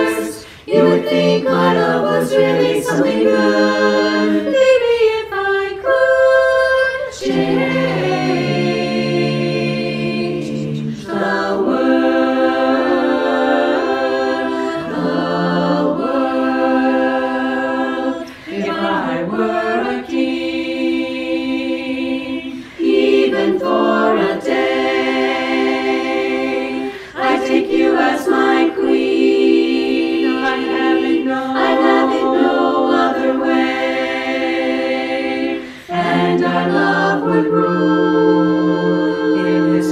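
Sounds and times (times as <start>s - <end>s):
women's chorus singing a cappella: 0.0s - 39.9s.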